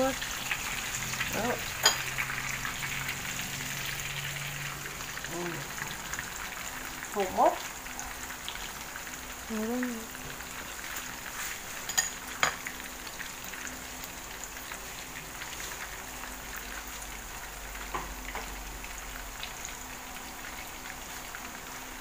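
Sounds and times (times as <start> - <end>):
fish frying in hot oil: 0.0 - 22.0.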